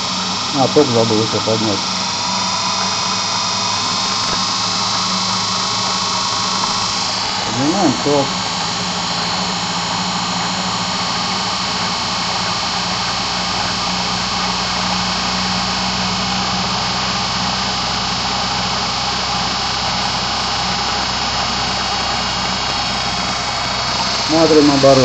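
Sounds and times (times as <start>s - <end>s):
electric motor whirring: 0.0s - 25.0s.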